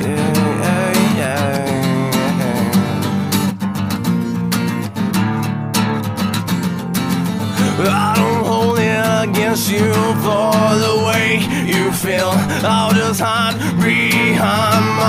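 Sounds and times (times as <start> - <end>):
strummed guitar: 0.0 - 15.0.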